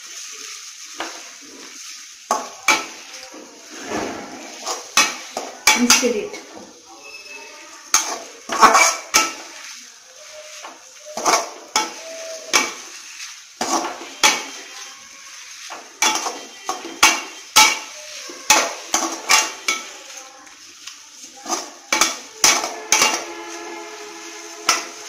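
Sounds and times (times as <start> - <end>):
metal spatula scraping a metal pan: 0.9 - 25.0.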